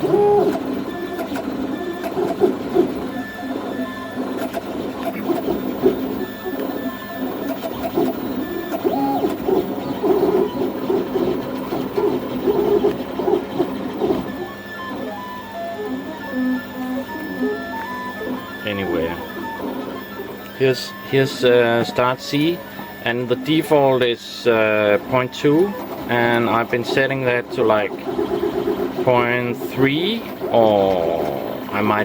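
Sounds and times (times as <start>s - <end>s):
stepper motors whining: 0.0s - 32.0s.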